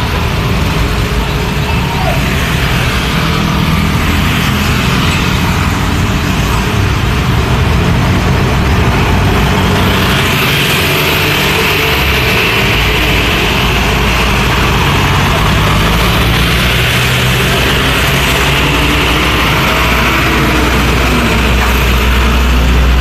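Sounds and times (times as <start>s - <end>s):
diesel trucks rumbling: 0.0s - 23.0s
motorcycles passing: 0.0s - 23.0s
vehicle engines moving off: 0.0s - 23.0s.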